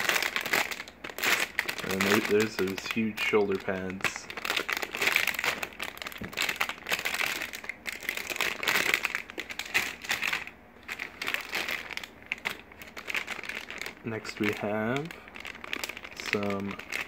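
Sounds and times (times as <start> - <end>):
plastic bags crinkling and rustling: 0.0 - 17.0.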